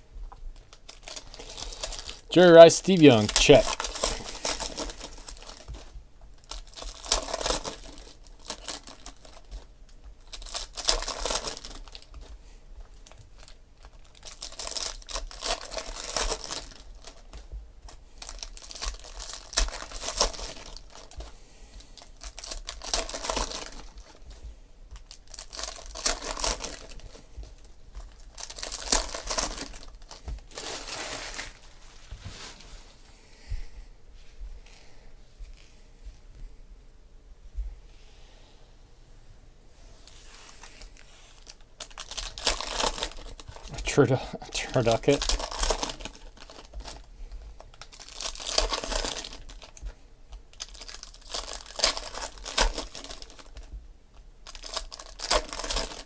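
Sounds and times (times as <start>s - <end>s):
foil wrappers tearing and crinkling: 0.6s - 24.4s, 25.0s - 31.9s, 40.6s - 53.7s, 54.4s - 56.0s.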